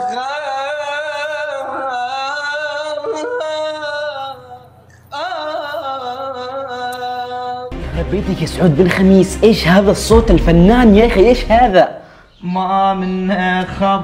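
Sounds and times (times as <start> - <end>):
person singing unaccompanied: 0.0 - 11.8.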